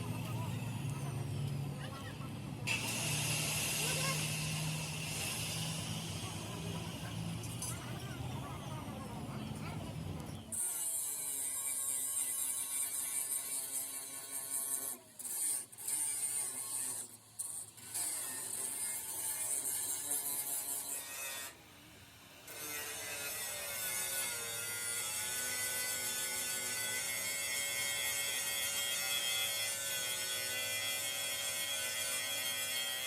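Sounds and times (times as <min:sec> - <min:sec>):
workshop machine motor whine: 0:00.0 - 0:33.0.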